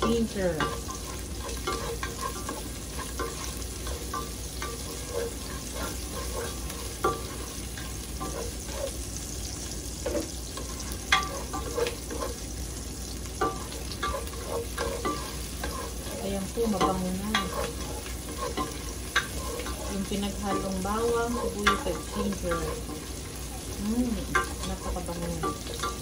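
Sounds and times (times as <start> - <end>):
food sizzling in oil: 0.0 - 26.0
spoon scraping and clacking on pot: 0.0 - 26.0.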